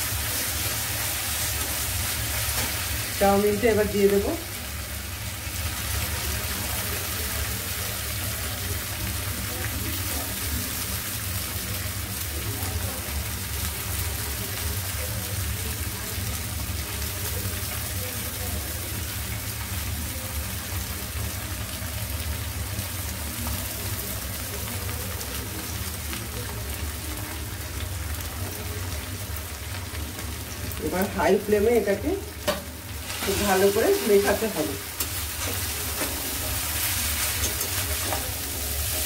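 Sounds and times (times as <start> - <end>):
sauce frying in a wok: 0.0 - 39.0.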